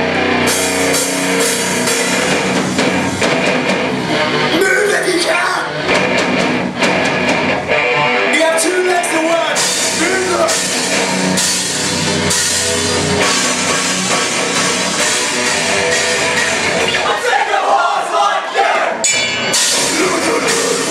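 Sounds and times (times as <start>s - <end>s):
rock band playing live: 0.0s - 17.8s, 18.9s - 20.9s.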